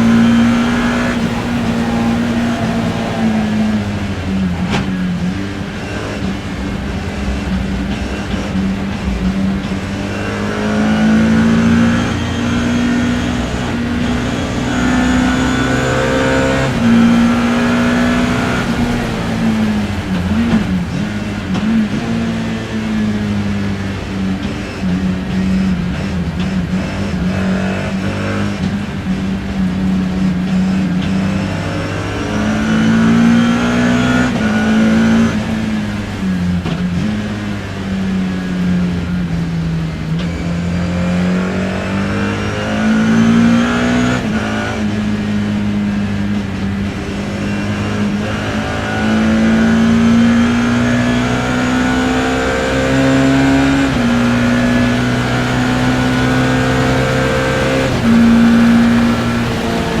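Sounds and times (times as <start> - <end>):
race car engine accelerating: 0.0 - 60.0.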